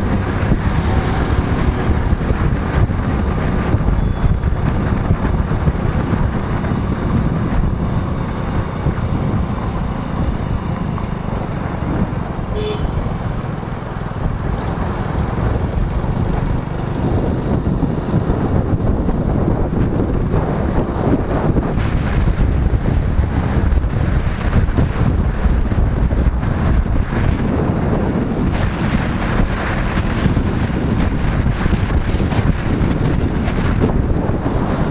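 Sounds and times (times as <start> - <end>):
road and traffic noise: 0.0 - 34.9
wind buffeting microphone: 0.0 - 34.9.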